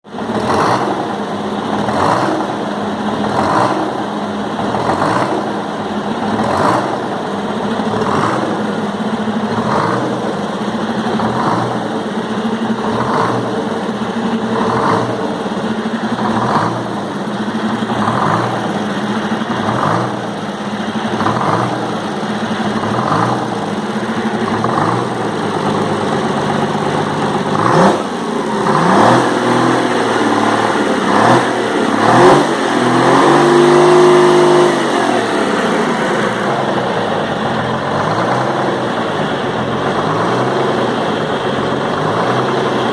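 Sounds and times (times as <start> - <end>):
engine revving: 0.0 - 42.9
diesel engine idling: 0.1 - 42.9.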